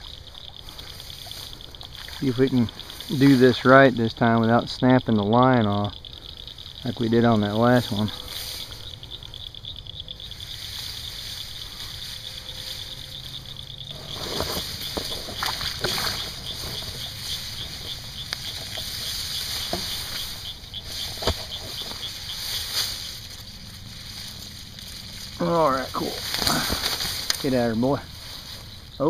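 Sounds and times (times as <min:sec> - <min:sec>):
rustling in tall grass: 0:00.0 - 0:04.7, 0:06.1 - 0:29.0
insects chirping: 0:00.0 - 0:29.0.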